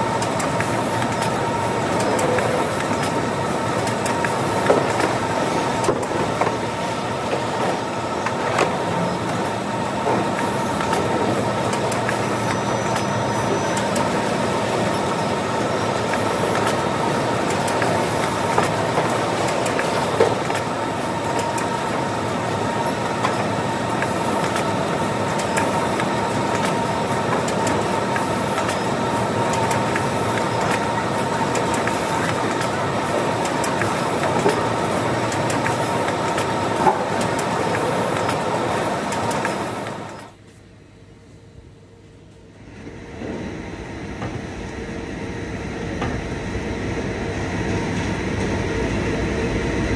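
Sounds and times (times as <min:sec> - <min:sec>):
packing machine running: 0:00.0 - 0:40.4
conveyor belts running: 0:00.0 - 0:49.9.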